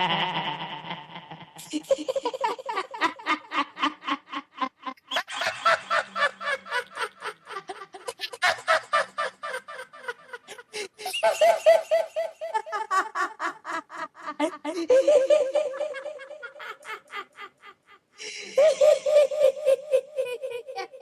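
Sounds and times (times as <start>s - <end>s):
processed person laughing: 0.0s - 21.0s.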